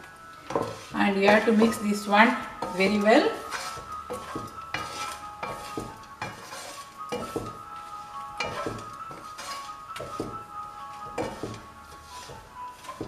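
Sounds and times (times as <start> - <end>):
spatula scraping frying pan: 0.4 - 13.0.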